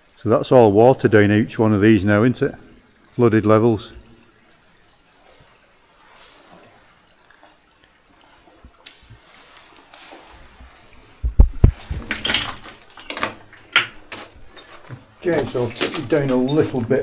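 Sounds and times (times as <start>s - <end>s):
water dripping: 0.0s - 17.0s
water trickling: 0.0s - 17.0s.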